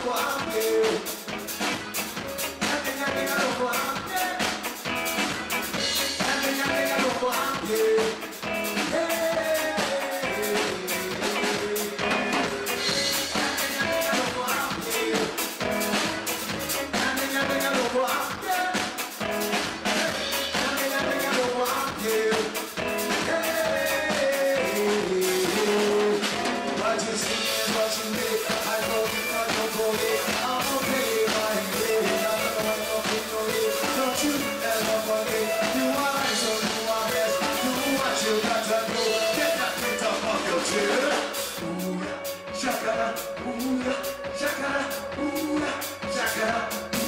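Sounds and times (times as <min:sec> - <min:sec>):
man singing into a microphone: 0:00.0 - 0:01.4, 0:02.4 - 0:04.8, 0:05.7 - 0:47.0
drum kit beat: 0:00.0 - 0:47.0
electric guitar: 0:00.0 - 0:47.0.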